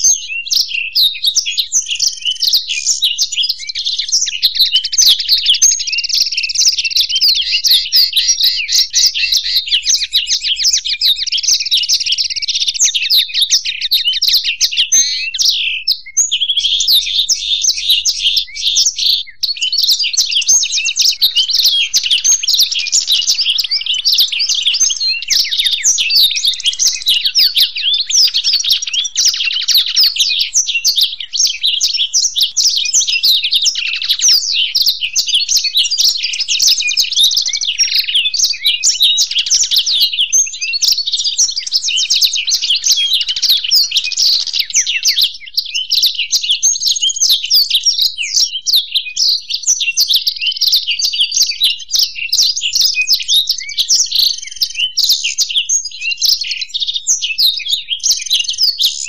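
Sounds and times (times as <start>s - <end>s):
songbirds twittering and trilling: 0.0s - 59.0s.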